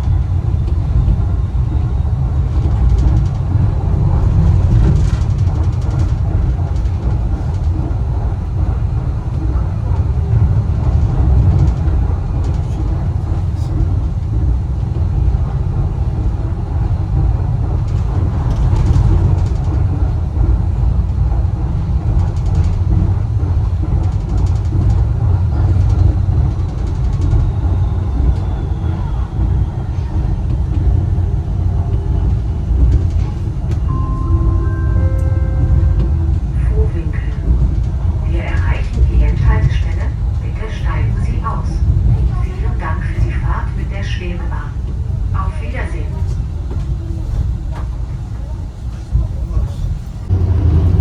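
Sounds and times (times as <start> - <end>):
suspension railway car rumbling: 0.0 - 51.0.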